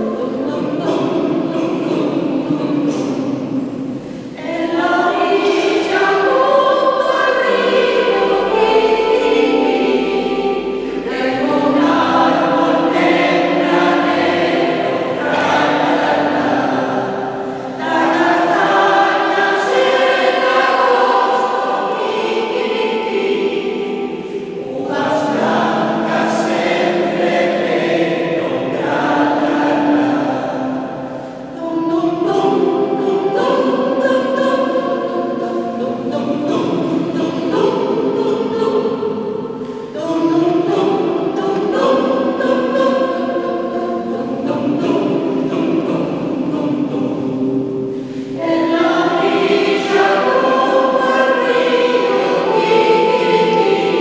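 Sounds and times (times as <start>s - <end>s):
choir singing in parts: 0.0s - 54.0s.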